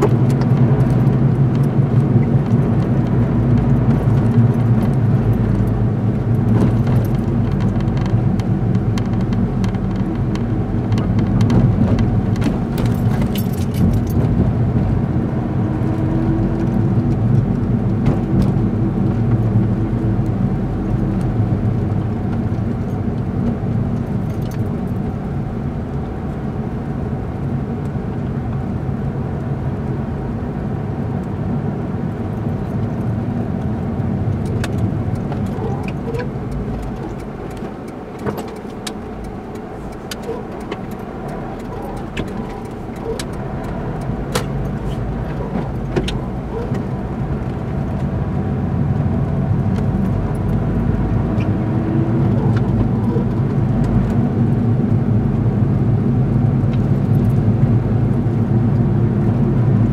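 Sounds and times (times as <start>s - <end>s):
car engine drone: 0.0s - 59.9s
road rumble: 0.0s - 59.9s.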